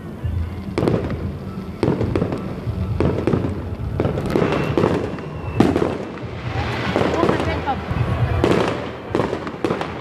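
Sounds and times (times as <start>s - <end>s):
continuous rumble: 0.0s - 10.0s
firework shells bursting: 0.8s - 10.0s.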